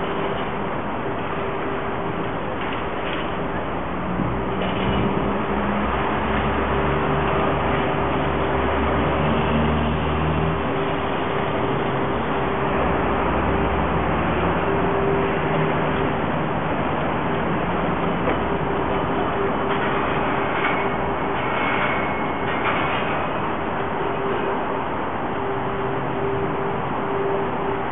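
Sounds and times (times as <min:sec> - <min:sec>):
deep engine drone: 0:00.0 - 0:27.9
traffic hum and road noise: 0:00.0 - 0:27.9.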